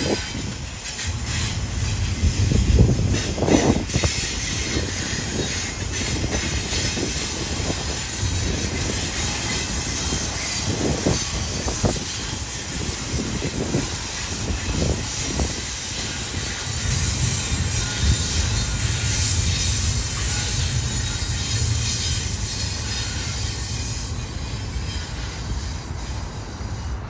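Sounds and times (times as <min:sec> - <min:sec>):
clanks over rail joints: 0:00.0 - 0:25.9
train wheels rumbling on rails: 0:00.0 - 0:27.0.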